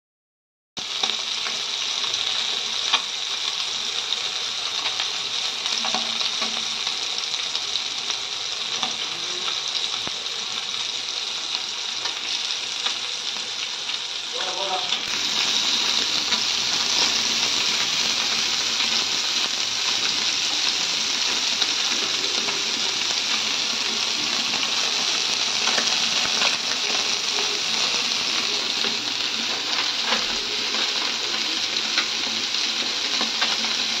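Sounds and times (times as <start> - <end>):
fish sizzling in hot oil: 0.8 - 34.0.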